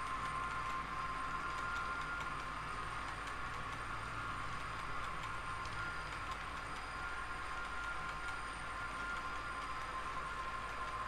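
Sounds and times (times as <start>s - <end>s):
model train cars rolling whine: 0.0s - 11.0s.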